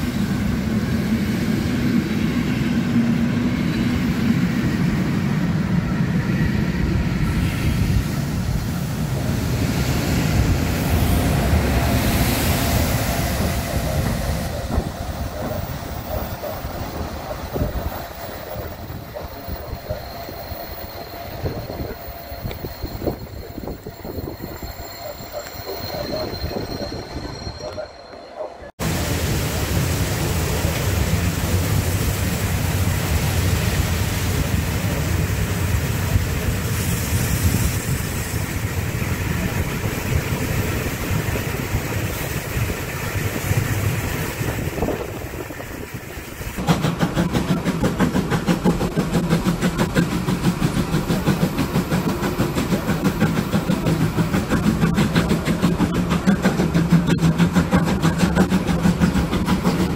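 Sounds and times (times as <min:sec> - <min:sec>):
steam locomotive exhaust beat: 0:06.7 - 0:26.9, 0:28.8 - 0:59.9.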